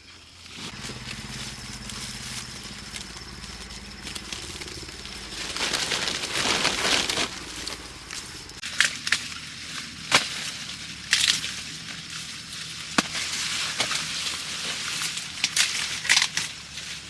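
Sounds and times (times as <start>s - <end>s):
dry crackling and rustling: 0.0s - 17.0s.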